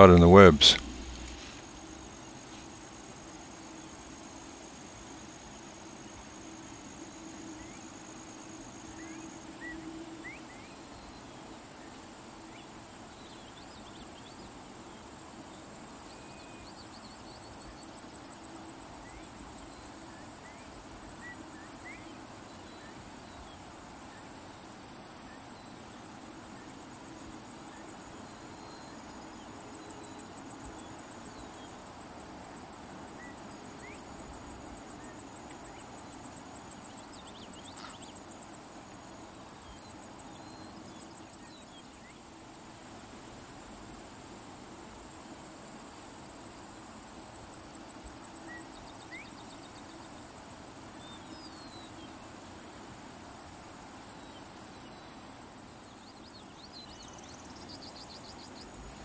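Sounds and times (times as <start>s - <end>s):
insect chorus trilling: 0.0s - 59.0s.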